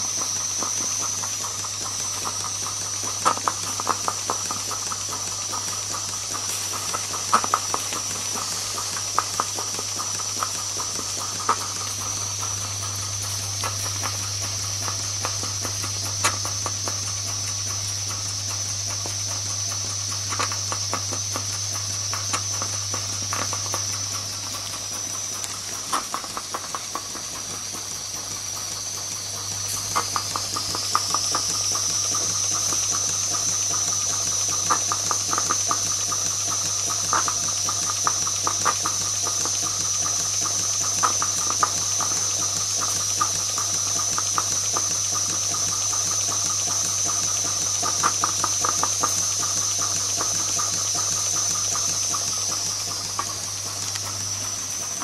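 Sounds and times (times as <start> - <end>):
engine clicks: 0.0 - 55.0
steam hiss: 0.0 - 55.0.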